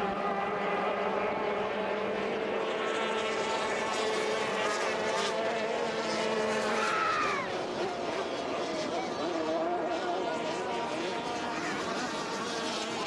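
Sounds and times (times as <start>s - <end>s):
boat passing by: 0.0s - 13.0s
racing boat engines droning: 0.0s - 13.0s.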